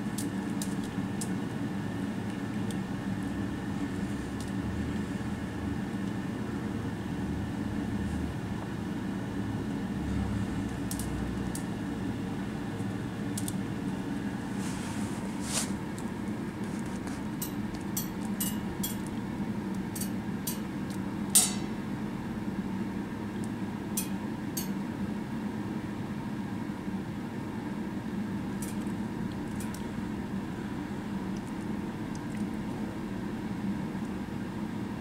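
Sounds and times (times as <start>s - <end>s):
low room hum: 0.0s - 35.0s.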